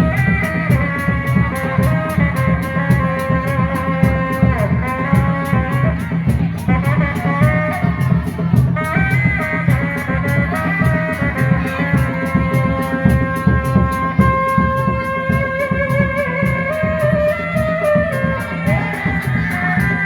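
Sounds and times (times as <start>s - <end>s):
steady drum beat: 0.0s - 20.0s.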